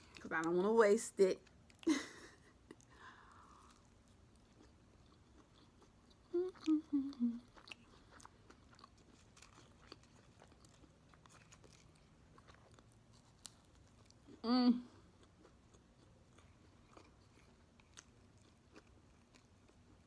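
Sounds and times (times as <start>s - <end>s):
person chewing food: 1.4s - 20.0s.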